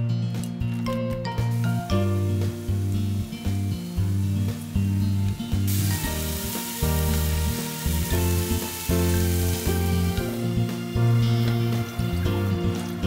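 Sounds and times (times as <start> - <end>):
background music: 0.0 - 13.0
chicken sizzling in frying pan: 1.5 - 13.0.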